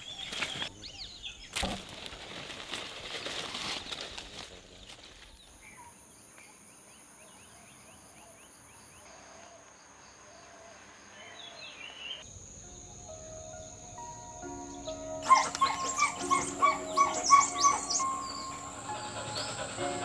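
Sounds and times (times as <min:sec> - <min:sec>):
small birds chirping: 0:00.0 - 0:01.7, 0:03.1 - 0:20.0
insects droning: 0:00.0 - 0:20.0.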